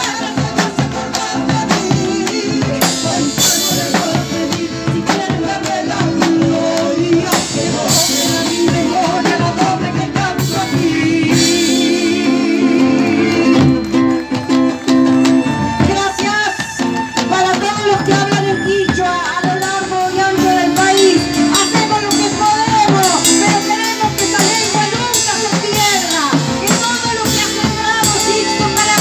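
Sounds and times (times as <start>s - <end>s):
bass drum beating: 0.0s - 16.5s, 17.3s - 29.0s
acoustic guitar: 0.0s - 29.0s
drum kit: 0.0s - 29.0s
person singing: 0.0s - 29.0s.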